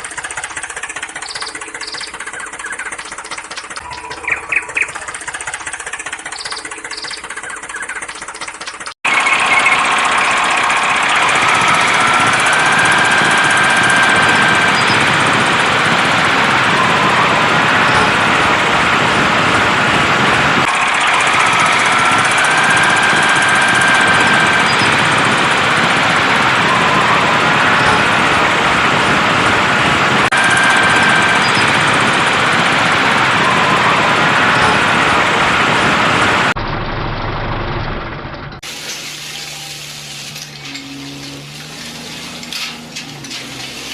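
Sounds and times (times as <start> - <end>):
heavy machine engine running loudly: 0.0 - 43.9.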